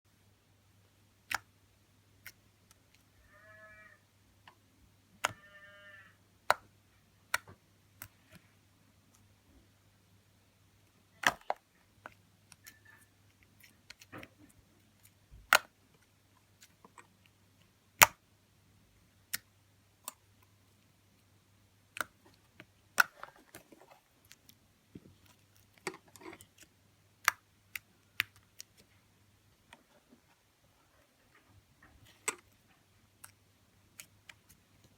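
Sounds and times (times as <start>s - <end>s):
faint steady hum: 0.1s - 34.9s.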